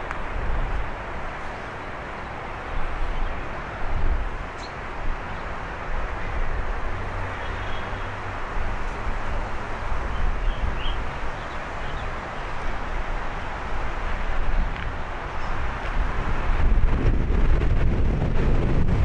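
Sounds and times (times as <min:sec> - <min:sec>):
distant city traffic: 0:00.0 - 0:19.0
wind: 0:00.0 - 0:19.0.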